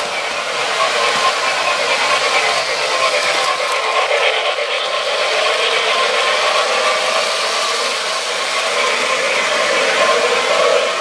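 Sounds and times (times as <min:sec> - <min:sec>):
model train motors: 0:00.0 - 0:11.0
model train wheels on rails: 0:00.0 - 0:11.0.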